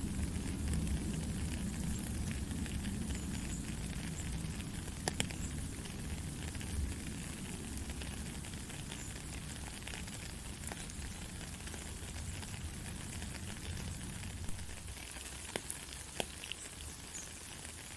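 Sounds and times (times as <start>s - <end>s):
heavy rain falling: 0.0s - 17.9s
sharp drip ticks: 0.2s - 17.9s.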